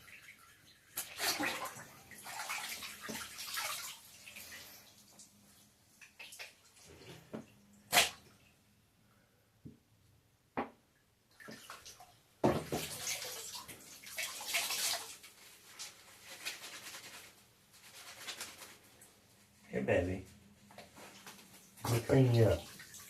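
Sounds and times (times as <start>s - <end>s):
water splashing in bathtub: 0.0s - 8.6s, 11.3s - 19.2s, 20.8s - 23.0s.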